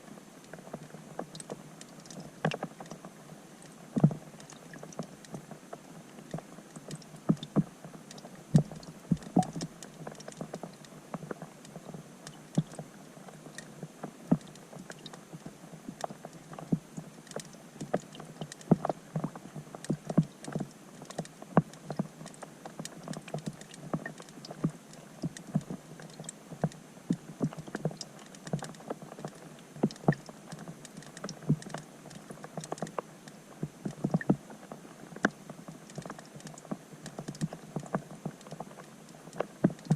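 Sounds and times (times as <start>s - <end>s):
rain drops on water underwater: 0.0s - 39.9s.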